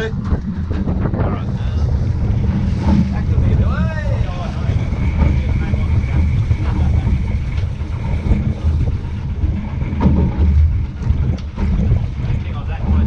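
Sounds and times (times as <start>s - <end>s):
boat engine rumble: 0.0s - 13.0s
wind buffeting microphone: 0.0s - 13.0s.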